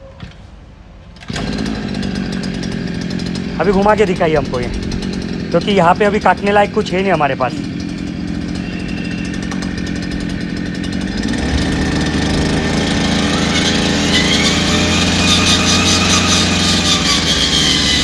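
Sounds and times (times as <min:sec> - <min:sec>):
brush cutter engine revving: 0:01.2 - 0:18.0.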